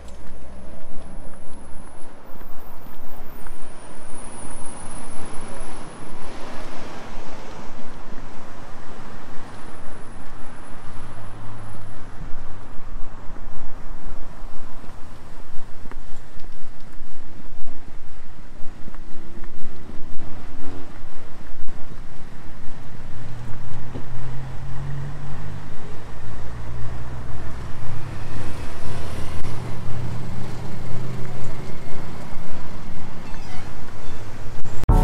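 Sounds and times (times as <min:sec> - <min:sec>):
traffic noise: 0:00.0 - 0:35.0.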